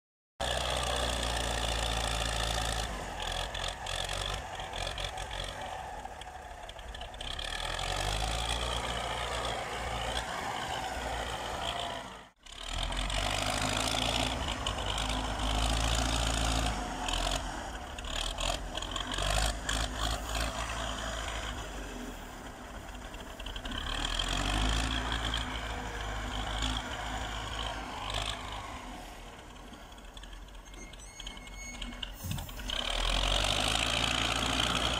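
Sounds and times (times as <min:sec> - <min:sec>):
wheel loader diesel engine revving: 0:00.4 - 0:34.9.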